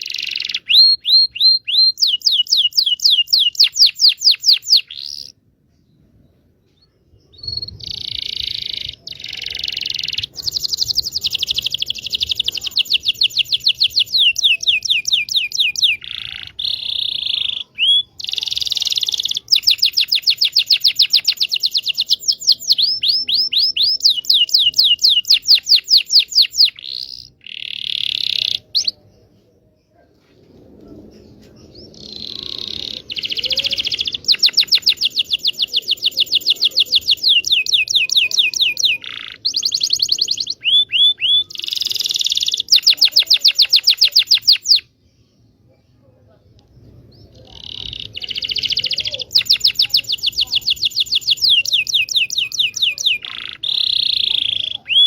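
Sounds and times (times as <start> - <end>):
canary singing trills: 0.0 - 5.4, 7.2 - 29.4, 31.6 - 45.5, 46.8 - 55.0.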